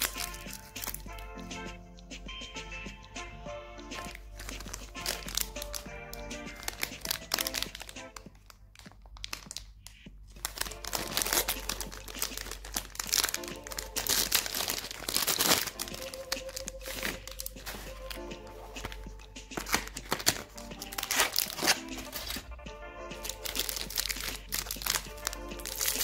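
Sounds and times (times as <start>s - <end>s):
plastic wrapper crinkling: 0.0s - 1.2s, 4.0s - 22.5s, 23.2s - 26.0s
background music: 0.0s - 26.0s.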